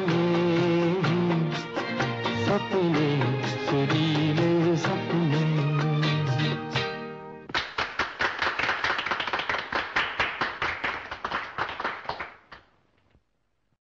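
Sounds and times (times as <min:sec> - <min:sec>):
people clapping: 0:00.0 - 0:06.3, 0:07.5 - 0:12.8.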